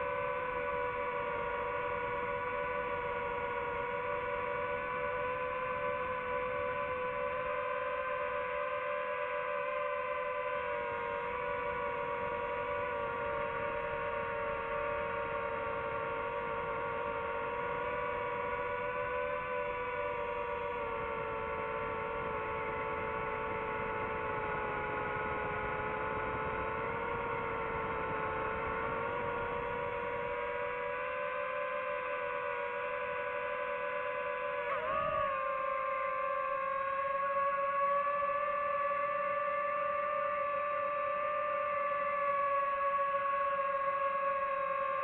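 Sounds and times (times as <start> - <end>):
drone propellers whining: 0.0 - 45.0.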